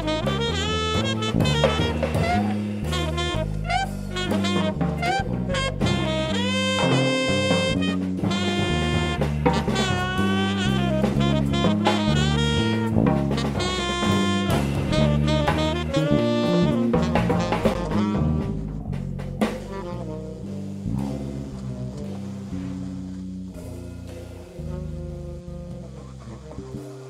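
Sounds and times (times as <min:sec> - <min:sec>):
drum kit played with sticks: 0:00.0 - 0:27.0
electric bass: 0:00.0 - 0:27.0
saxophone melody: 0:00.0 - 0:27.0.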